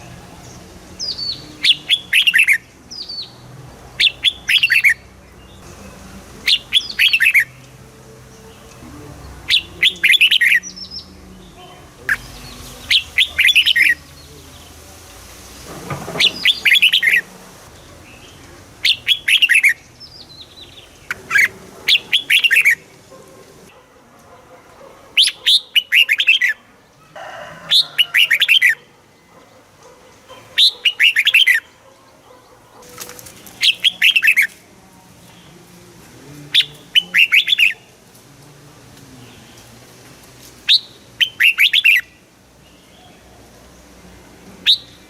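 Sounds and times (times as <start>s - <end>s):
bulbul singing: 0.0s - 23.7s, 25.2s - 26.7s, 30.1s - 35.8s, 36.4s - 38.2s, 40.6s - 45.0s.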